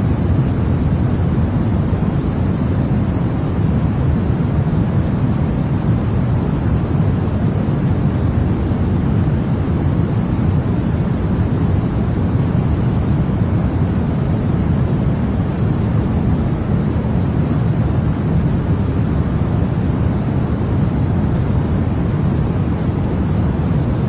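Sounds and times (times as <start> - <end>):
deep white noise hiss: 0.0 - 24.0.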